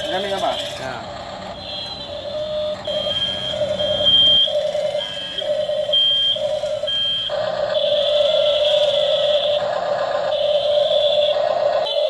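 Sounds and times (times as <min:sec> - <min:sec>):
steady electronic tone: 0:00.0 - 0:12.0
toy electronic beeping: 0:00.0 - 0:12.0.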